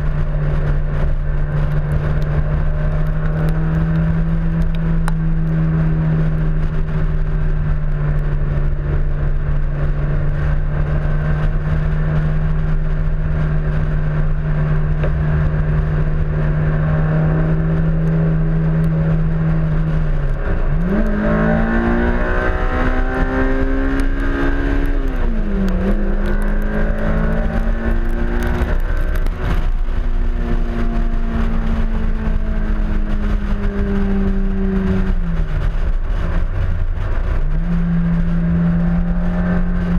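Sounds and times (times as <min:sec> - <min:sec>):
car engine accelerating: 0:00.0 - 0:39.9
wind rumble on microphone: 0:00.0 - 0:39.9.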